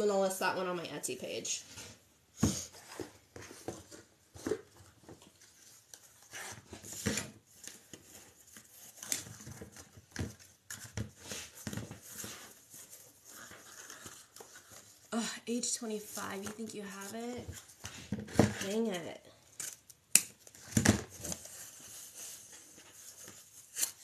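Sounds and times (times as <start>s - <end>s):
ribbon rustling and crinkling: 2.8s - 24.0s.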